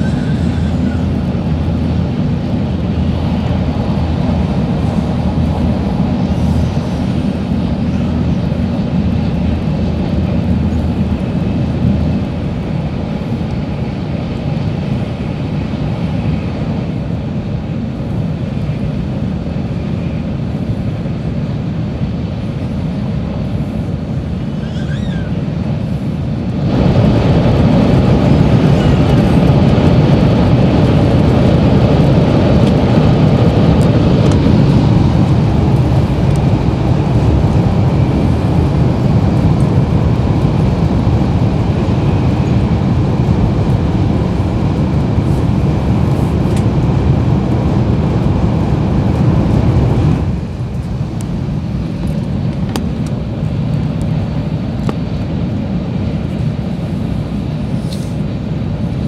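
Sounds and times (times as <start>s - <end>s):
train cabin rumble and rush: 0.0s - 59.0s.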